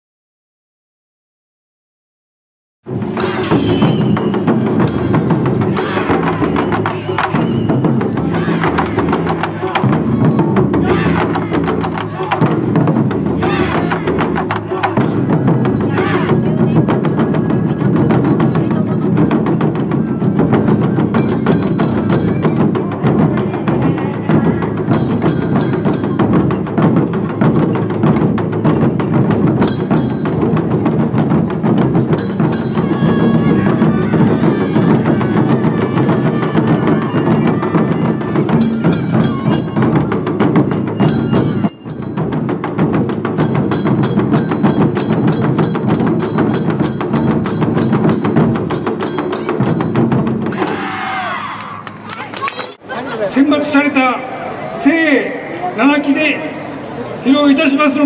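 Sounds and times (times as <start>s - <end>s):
taiko drumming: 2.8s - 52.0s.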